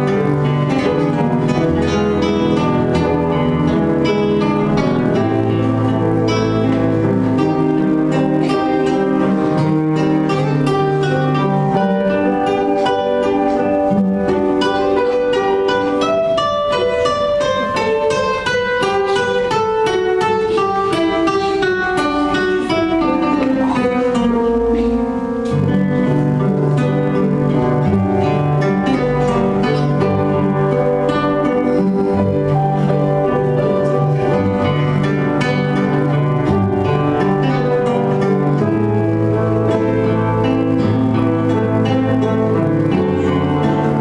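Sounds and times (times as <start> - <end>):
acoustic guitar music: 0.0 - 44.0.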